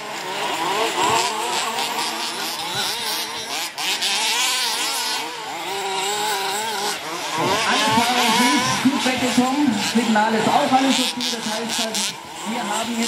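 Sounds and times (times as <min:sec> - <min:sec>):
rc car engines revving: 0:00.0 - 0:13.0.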